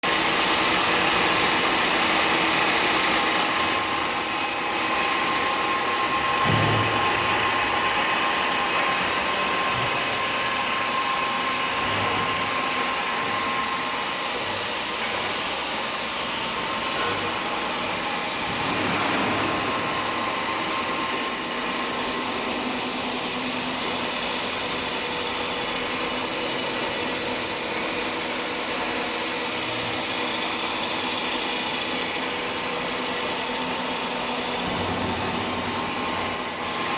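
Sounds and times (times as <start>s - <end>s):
milling machine whine: 0.0s - 36.9s.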